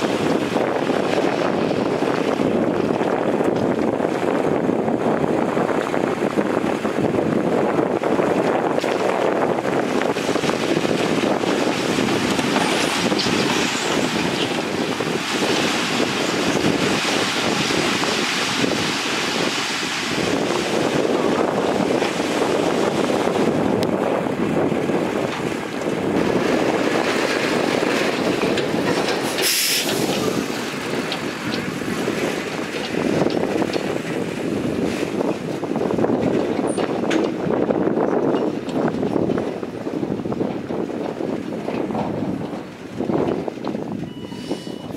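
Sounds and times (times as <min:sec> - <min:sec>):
diesel truck engines running: 0:00.0 - 0:44.9
truck driving over loose dirt: 0:00.0 - 0:44.9
wind noise on microphone: 0:00.0 - 0:44.9.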